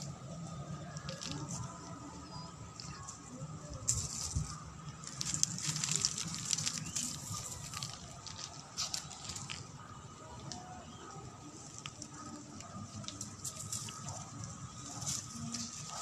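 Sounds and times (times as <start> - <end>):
leaves and plant stems rustling: 0.7 - 16.0.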